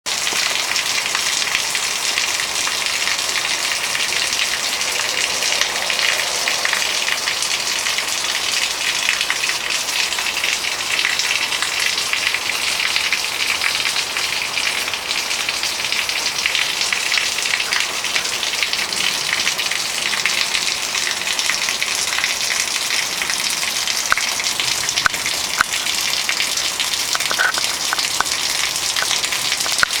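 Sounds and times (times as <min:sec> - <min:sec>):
rain on standing water: 0:00.1 - 0:30.0.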